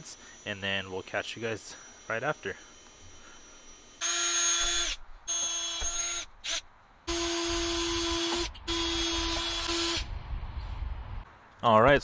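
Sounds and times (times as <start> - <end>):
cordless drill drilling into metal: 0.0 - 10.1.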